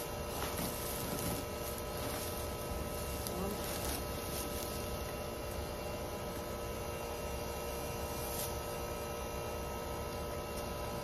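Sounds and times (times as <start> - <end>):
steady hum over low rumble: 0.0 - 11.0.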